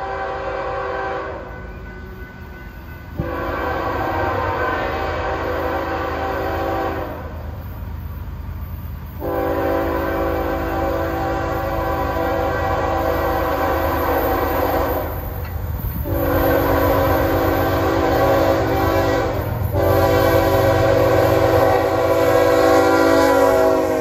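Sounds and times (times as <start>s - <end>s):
locomotive horn blasts: 0.0s - 1.6s, 3.2s - 7.5s, 9.2s - 15.4s, 16.0s - 24.0s
train rumbling: 0.0s - 24.0s.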